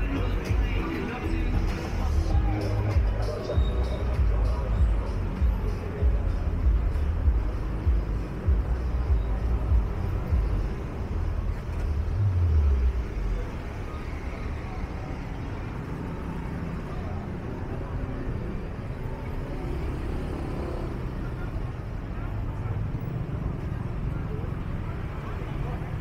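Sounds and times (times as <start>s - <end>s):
faint voices: 0.0s - 26.0s
traffic noise: 0.0s - 26.0s.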